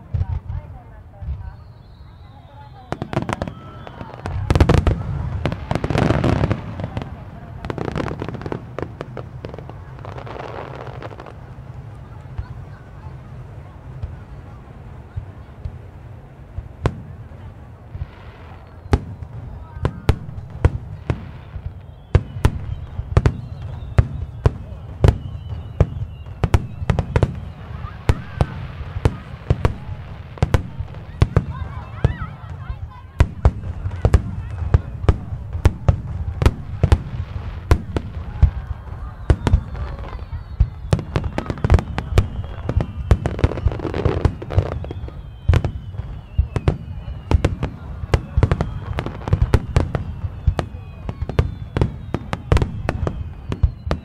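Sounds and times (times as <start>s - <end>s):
fireworks bursting with bangs: 0.0s - 54.0s.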